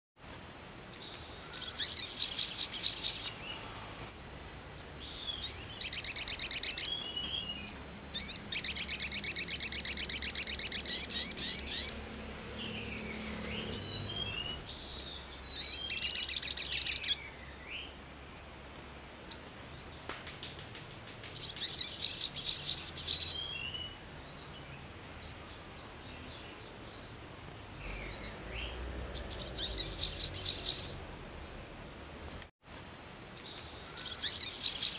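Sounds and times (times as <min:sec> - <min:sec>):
bird chips and sharp calls: 0:00.9 - 0:03.7, 0:04.8 - 0:18.0, 0:18.6 - 0:32.5, 0:33.4 - 0:34.9
bird fast trilling song: 0:00.9 - 0:03.7, 0:04.7 - 0:18.0, 0:20.9 - 0:31.8, 0:33.4 - 0:34.9.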